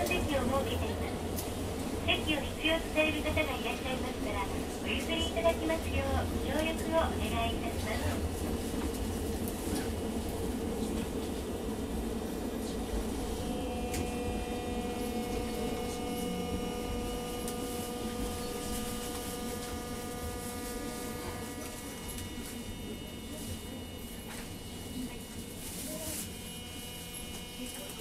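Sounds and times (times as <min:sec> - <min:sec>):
steady traction motor whine: 0:00.0 - 0:28.0
tram running rumble: 0:00.0 - 0:28.0.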